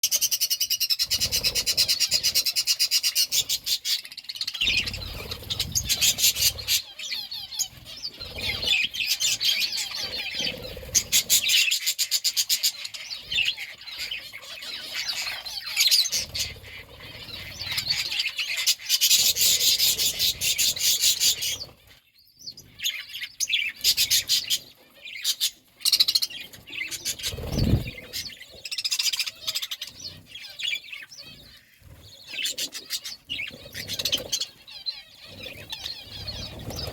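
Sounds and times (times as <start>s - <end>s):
parakeets chirping: 0.0s - 36.9s.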